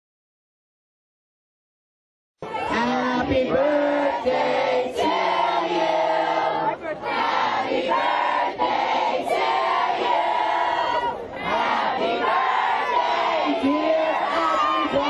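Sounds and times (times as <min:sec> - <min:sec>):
crowd singing and shouting: 0:02.4 - 0:15.0.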